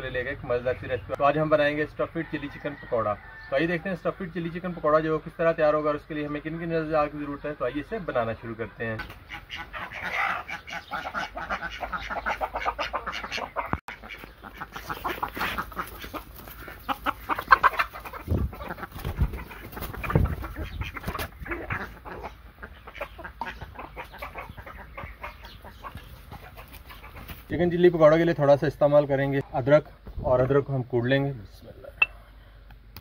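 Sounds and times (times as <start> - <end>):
chickens clucking: 0.0 - 32.8.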